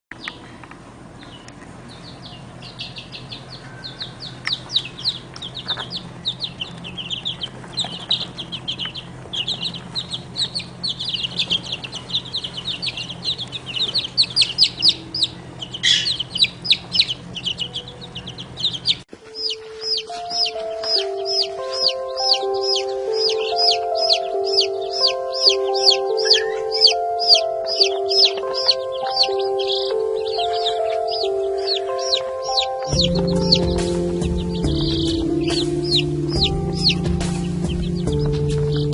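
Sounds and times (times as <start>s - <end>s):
baby birds peeping: 0.1s - 38.9s.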